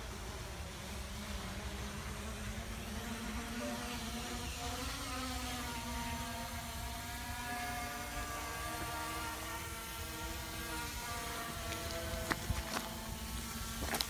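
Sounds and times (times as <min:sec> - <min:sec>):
drone motors whining: 0:01.6 - 0:14.0.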